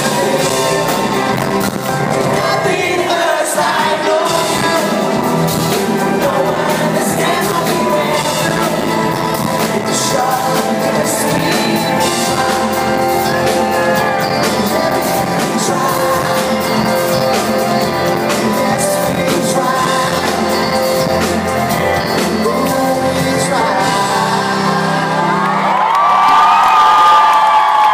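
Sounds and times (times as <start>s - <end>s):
man singing: 0.0s - 25.6s
live pop band playing: 0.0s - 27.9s.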